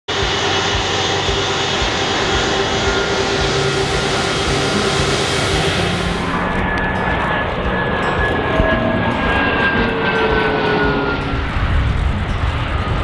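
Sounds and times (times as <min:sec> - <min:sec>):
jet engines whining: 0:00.1 - 0:13.0.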